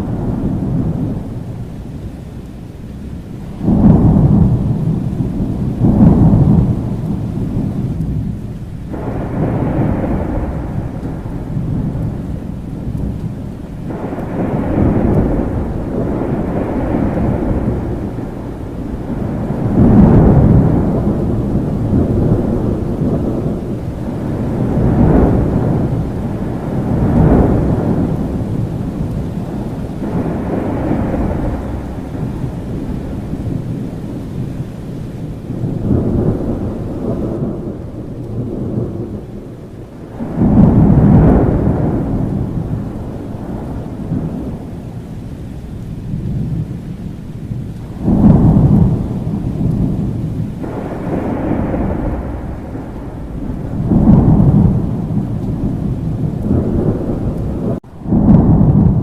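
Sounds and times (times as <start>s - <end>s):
rolling thunder: 0.0s - 59.0s
steady rain: 0.0s - 59.0s.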